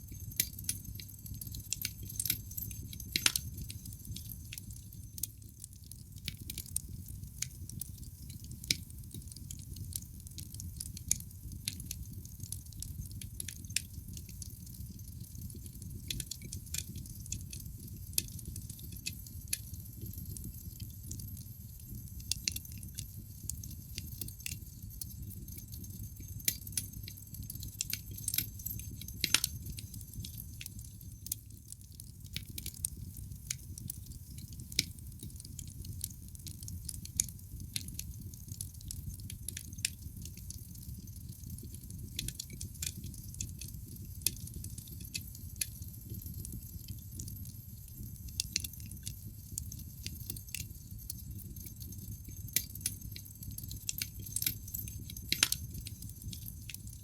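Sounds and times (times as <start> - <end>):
logs crackling in a fireplace: 0.0 - 57.0.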